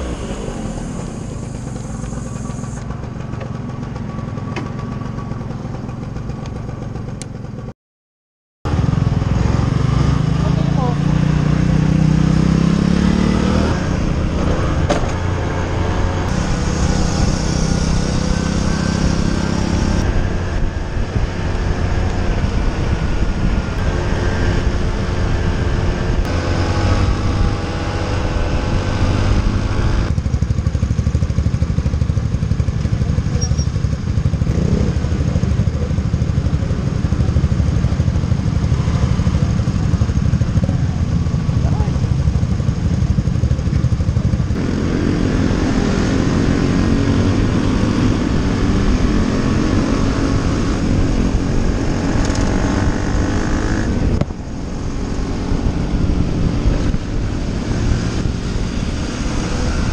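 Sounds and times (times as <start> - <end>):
motorcycle engine revving: 8.7 - 59.9.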